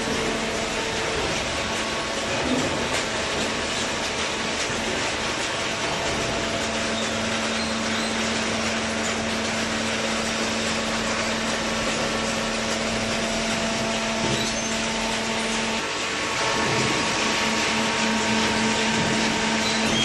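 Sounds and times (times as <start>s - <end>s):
baler mechanical noise: 0.0s - 20.0s
hydraulic pump motor humming: 0.0s - 20.0s.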